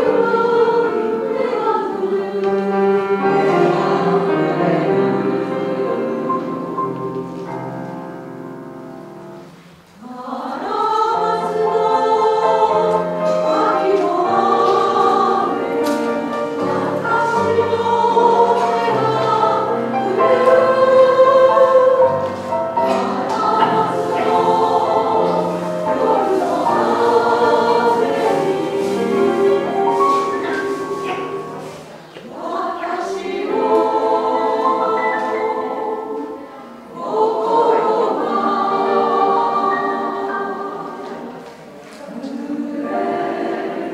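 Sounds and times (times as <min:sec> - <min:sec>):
women's choir singing: 0:00.0 - 0:43.9.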